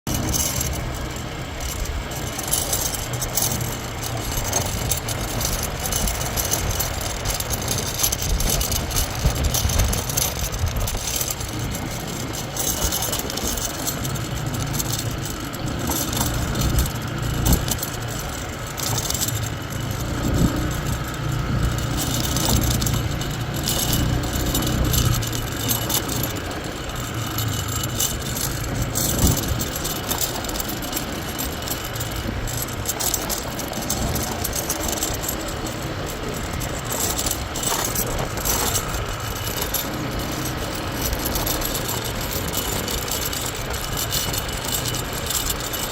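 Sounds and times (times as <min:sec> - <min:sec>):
motorbike engines running: 0:00.0 - 0:45.9.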